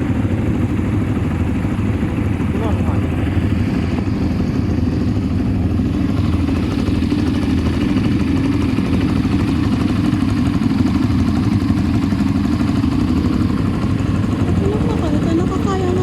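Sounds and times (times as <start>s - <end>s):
atv engine droning: 0.0s - 16.0s.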